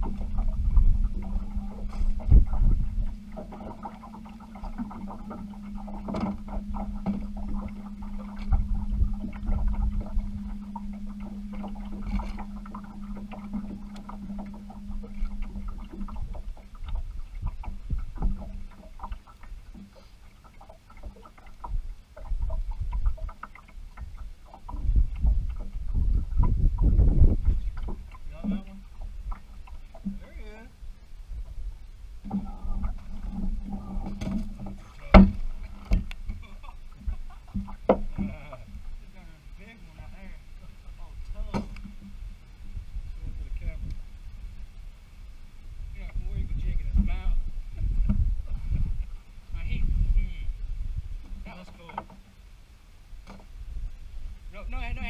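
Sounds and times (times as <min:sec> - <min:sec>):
wind rumble on microphone: 0:00.0 - 0:19.9, 0:20.6 - 0:55.0.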